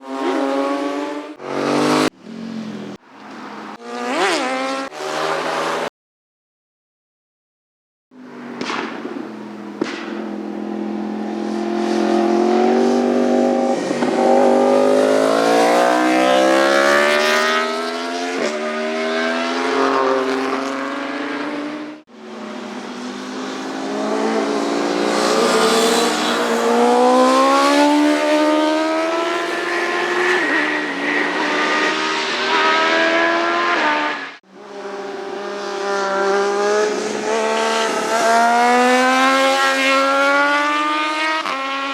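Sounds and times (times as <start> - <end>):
motorcycle engines accelerating: 8.2 - 41.9.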